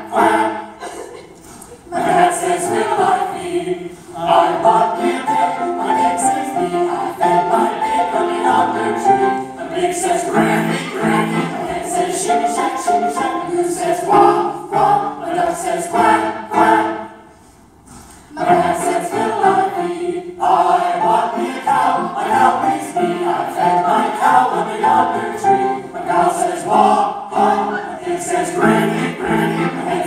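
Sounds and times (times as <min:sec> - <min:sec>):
mixed choir singing folk song: 0:00.0 - 0:17.5, 0:18.2 - 0:30.0
grand piano accompaniment: 0:00.0 - 0:30.0.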